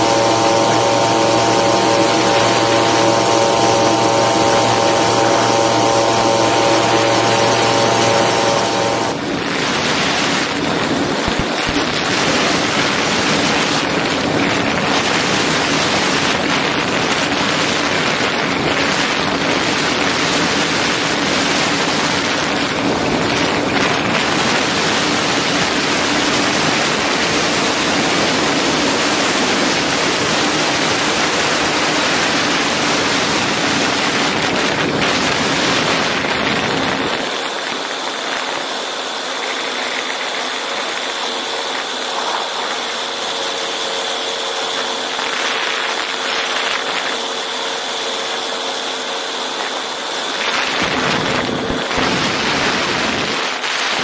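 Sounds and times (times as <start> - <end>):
aircraft engine and propeller droning: 0.0 - 54.0
heavy wind rush: 0.0 - 54.0.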